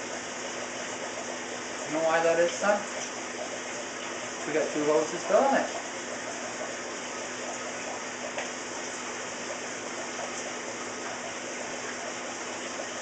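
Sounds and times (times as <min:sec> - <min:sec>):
water pouring into tank: 0:00.0 - 0:13.0.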